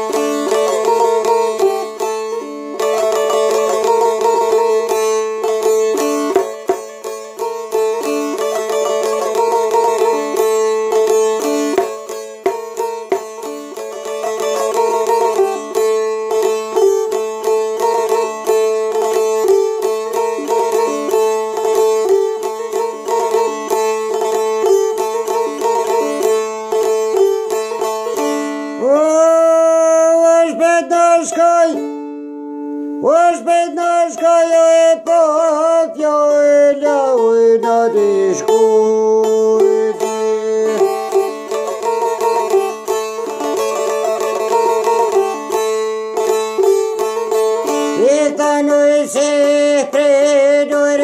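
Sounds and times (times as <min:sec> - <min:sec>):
folk lute picked melody: 0:00.0 - 0:51.0.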